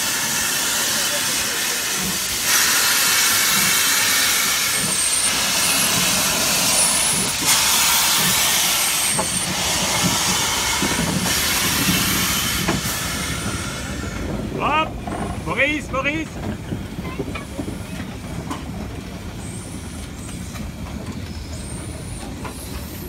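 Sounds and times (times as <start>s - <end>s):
locomotive steam hissing: 0.0s - 23.0s.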